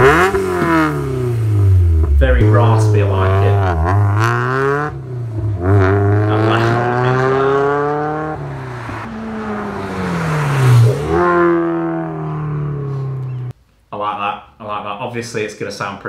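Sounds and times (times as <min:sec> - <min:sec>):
raspy car engine accelerating: 0:00.0 - 0:13.5.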